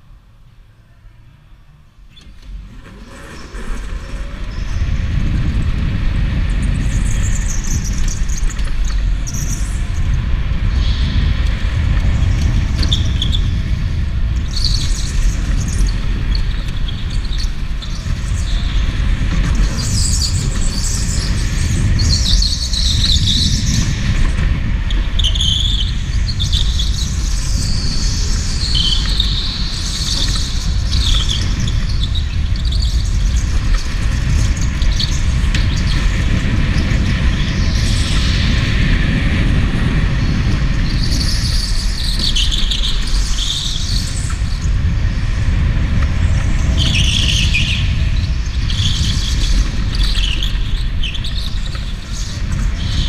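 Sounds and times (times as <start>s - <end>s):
go-kart rumbling on concrete: 0.0s - 53.0s.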